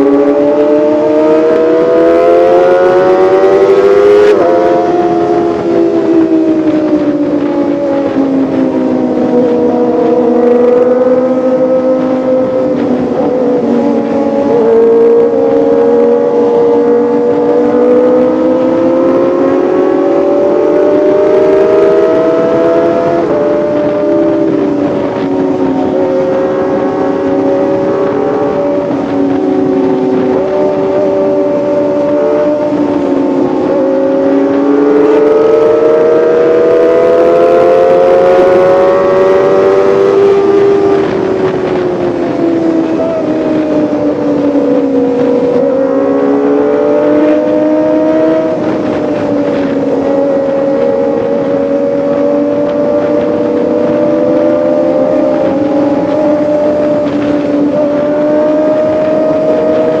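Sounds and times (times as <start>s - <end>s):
motorcycle engine revving high: 0.0s - 60.0s.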